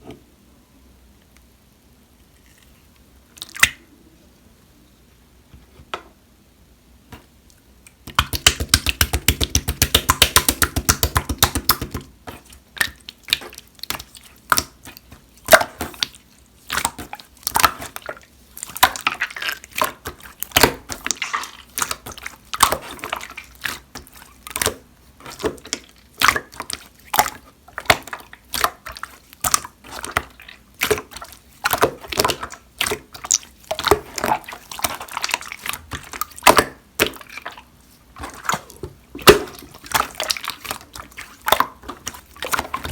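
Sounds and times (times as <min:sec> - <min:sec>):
slime wet pops and squelches: 0:03.4 - 0:03.8, 0:07.2 - 0:42.9.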